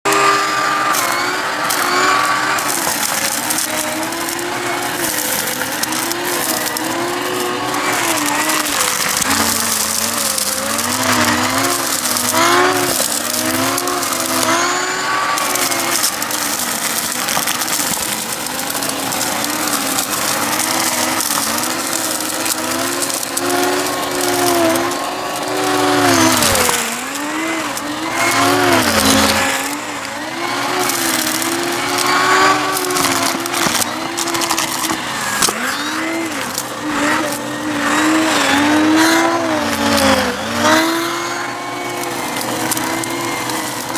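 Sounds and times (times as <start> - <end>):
debris crackling in vacuum: 0.0 - 43.9
vacuum cleaner motor: 0.0 - 43.9.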